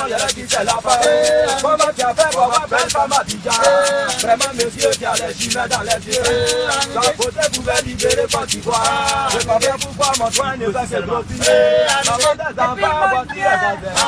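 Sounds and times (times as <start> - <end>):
men singing: 0.0 - 14.0
shaker rhythm: 0.0 - 14.0.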